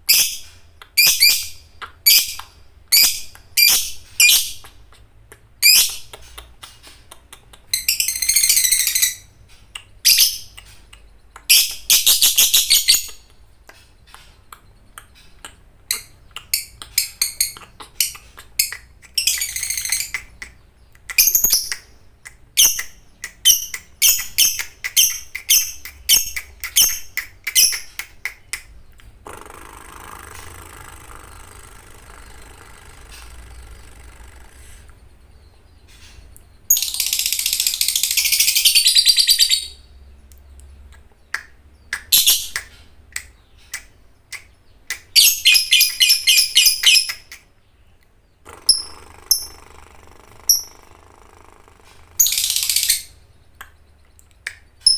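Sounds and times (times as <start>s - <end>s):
lovebird trilling and chirping: 0.0s - 4.7s, 7.6s - 28.6s, 29.2s - 39.9s, 45.1s - 47.3s, 48.4s - 54.9s.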